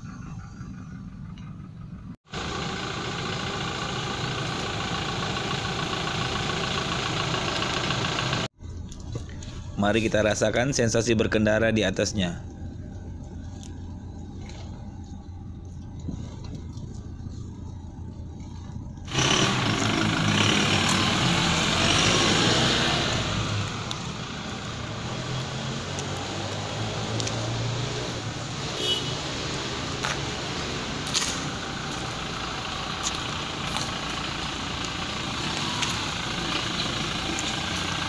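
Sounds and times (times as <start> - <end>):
diesel car engine running: 0.0 - 38.0.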